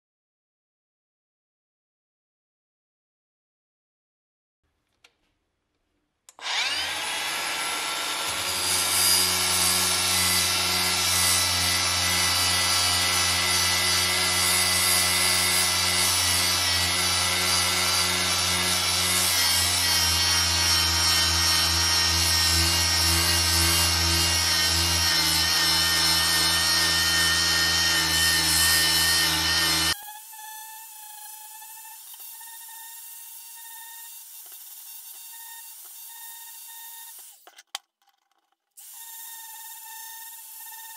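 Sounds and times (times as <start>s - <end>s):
power tool grinding steel: 6.4s - 37.5s, 38.8s - 40.9s.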